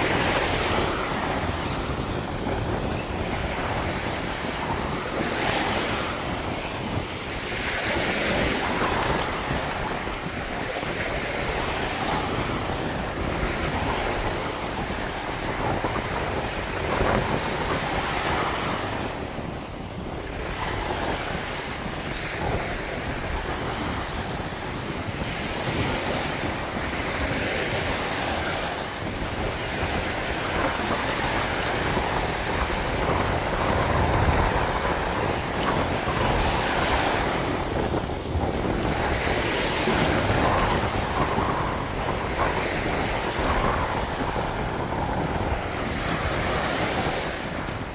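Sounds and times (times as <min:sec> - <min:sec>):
small waves breaking on beach: 0:00.0 - 0:47.9
wind buffeting microphone: 0:00.0 - 0:47.9.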